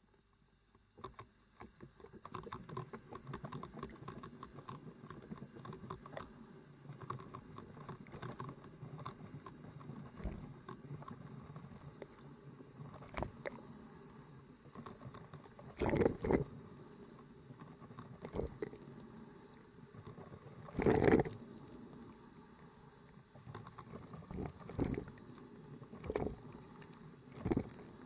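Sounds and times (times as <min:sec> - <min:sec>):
coffee machine gurgling: 0:01.9 - 0:28.0.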